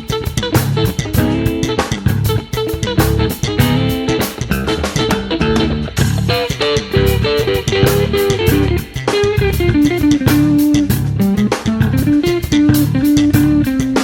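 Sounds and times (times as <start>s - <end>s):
bass guitar: 0.0s - 14.0s
electric guitar melody: 0.0s - 14.0s
steady drum beat: 0.0s - 14.0s.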